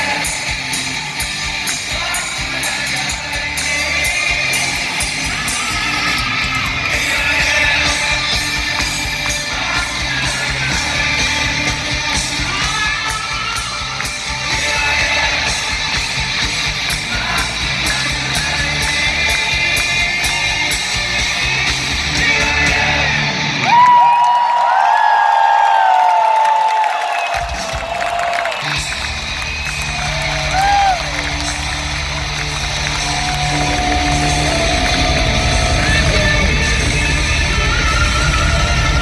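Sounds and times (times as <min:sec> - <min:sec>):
live rock band playing: 0:00.0 - 0:23.6, 0:27.4 - 0:39.0
crowd singing and shouting: 0:00.0 - 0:24.8, 0:25.6 - 0:39.0.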